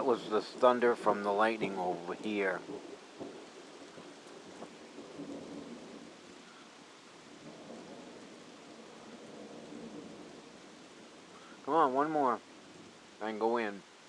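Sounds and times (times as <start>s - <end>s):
low rumble of thunder: 0.0s - 14.0s
steady rain: 0.0s - 14.0s.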